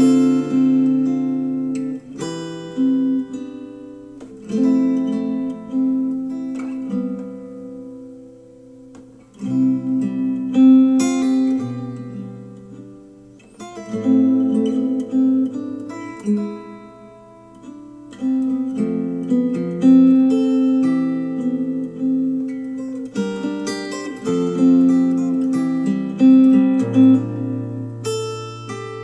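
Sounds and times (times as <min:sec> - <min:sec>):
strummed acoustic guitar music: 0:00.0 - 0:29.0.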